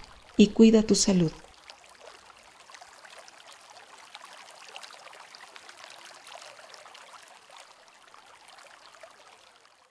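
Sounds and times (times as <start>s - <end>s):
water trickling: 0.0s - 9.9s.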